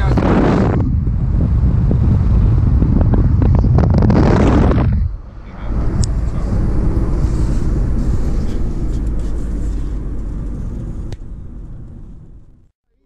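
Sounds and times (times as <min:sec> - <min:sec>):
van engine and road rumble: 0:00.0 - 0:12.7.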